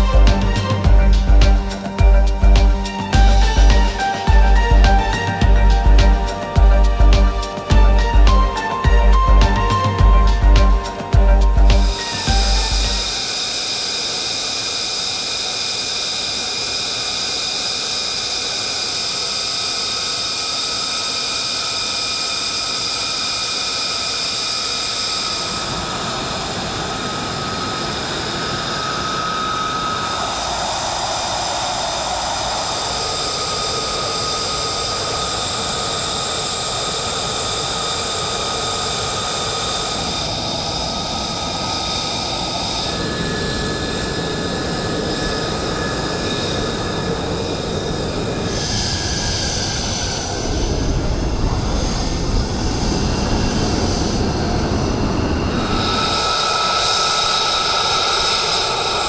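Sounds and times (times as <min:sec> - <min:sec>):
jet engine idling whine: 0:00.0 - 0:59.0.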